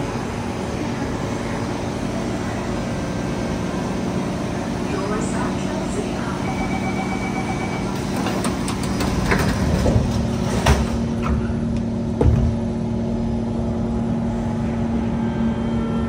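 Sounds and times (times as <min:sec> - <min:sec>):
train carriage equipment hum: 0:00.0 - 0:16.0.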